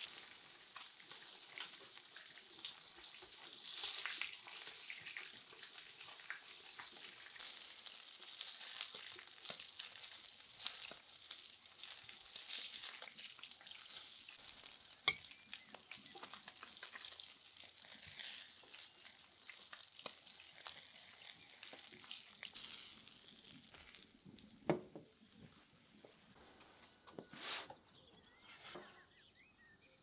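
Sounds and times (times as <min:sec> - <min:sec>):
hot oil sizzling and crackling: 0:00.0 - 0:24.8.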